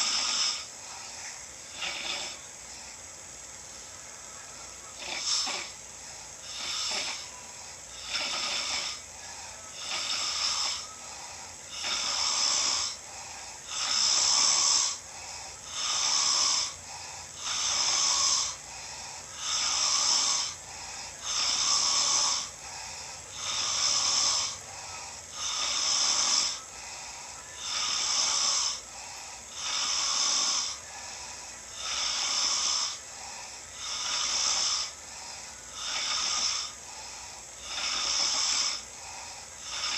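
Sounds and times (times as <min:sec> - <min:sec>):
man snoring: 0:00.0 - 0:03.1, 0:04.8 - 0:39.9.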